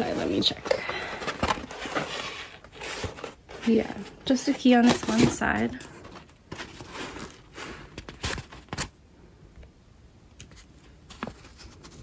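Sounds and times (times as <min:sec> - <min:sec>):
paper rustling and crinkling: 0:00.0 - 0:09.0, 0:10.4 - 0:12.0.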